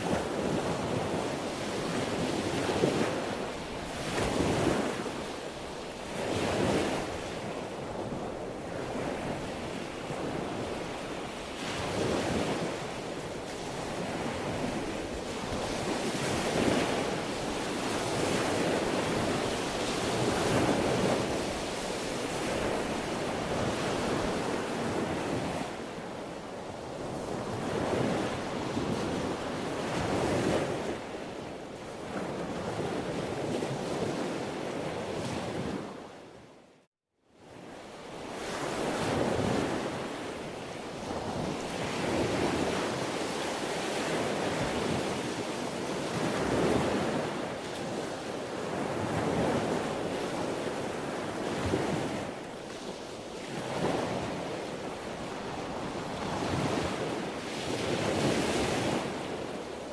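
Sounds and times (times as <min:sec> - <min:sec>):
sea waves washing onto shore: 0:00.0 - 0:35.9, 0:38.0 - 0:59.9.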